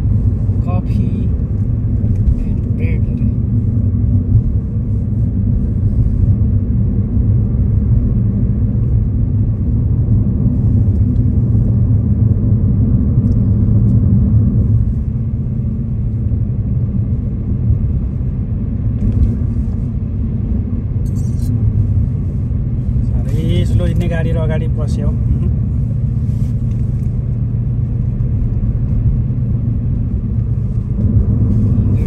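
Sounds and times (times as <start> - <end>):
car engine rumble: 0.0 - 32.0
road noise: 0.0 - 32.0.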